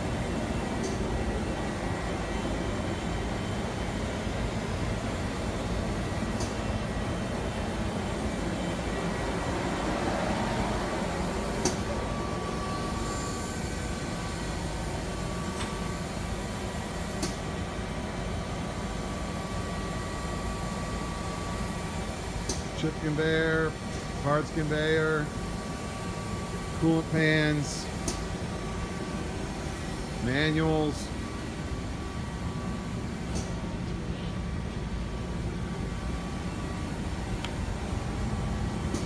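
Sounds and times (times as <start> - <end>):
machine hum and whir: 0.0 - 39.0.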